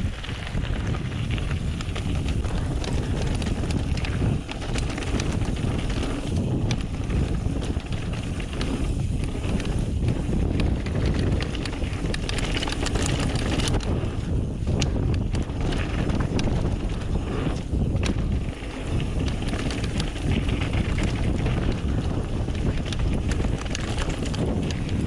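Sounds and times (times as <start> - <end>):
bike clicks and rattles: 0.0 - 25.0
bike tyre noise: 0.0 - 25.0
wind rumble on microphone: 0.0 - 25.0.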